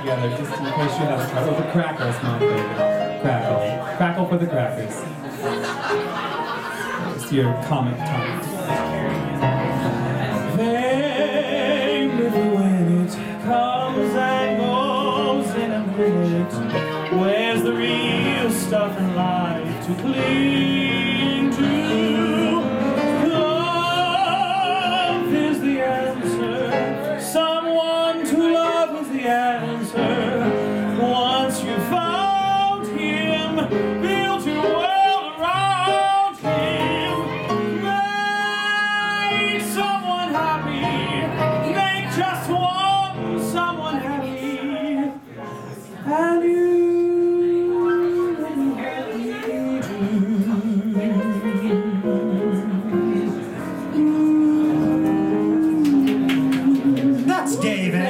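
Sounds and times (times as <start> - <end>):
piano accompaniment: 0.0 - 58.0
person singing wordlessly: 10.3 - 45.2, 46.0 - 58.0.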